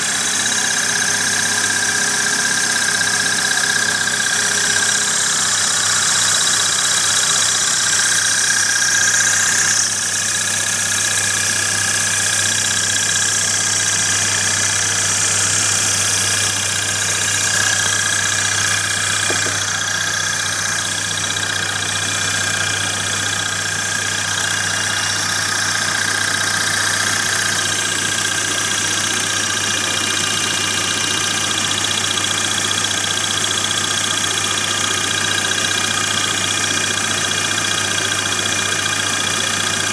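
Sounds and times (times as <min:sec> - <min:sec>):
air compressor high whine: 0:00.0 - 0:39.9
car engine idling: 0:00.0 - 0:39.9.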